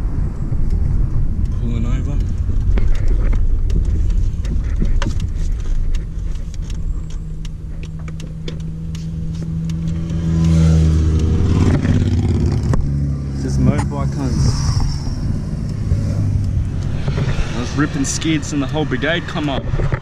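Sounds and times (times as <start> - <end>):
car engine running under load: 0.0 - 20.0.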